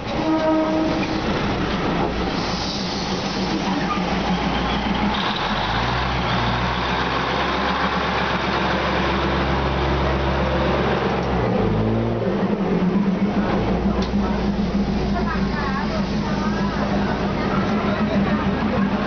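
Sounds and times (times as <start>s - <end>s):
diesel engine drone: 1.3s - 19.0s.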